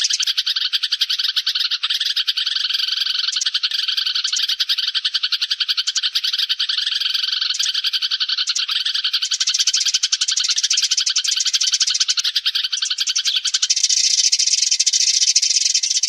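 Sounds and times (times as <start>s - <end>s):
sparrows chattering: 0.0s - 16.0s.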